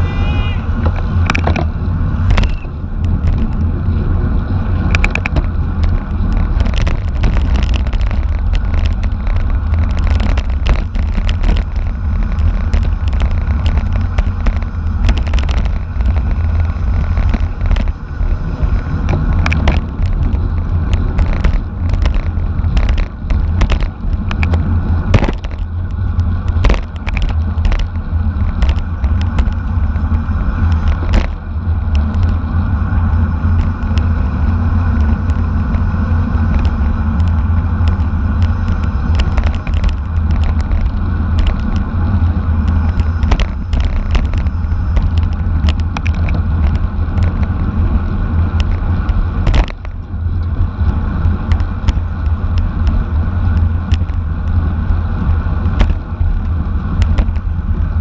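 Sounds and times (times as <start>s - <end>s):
wind buffeting microphone: 0.0s - 58.0s
bike clicks and knocks: 0.8s - 3.8s, 4.6s - 58.0s.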